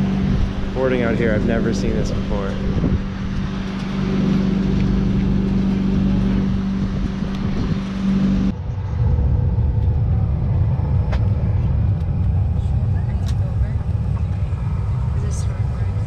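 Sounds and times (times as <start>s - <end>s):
airliner cabin rumble: 0.0s - 16.0s
jet engine low hum with hiss: 0.0s - 16.0s.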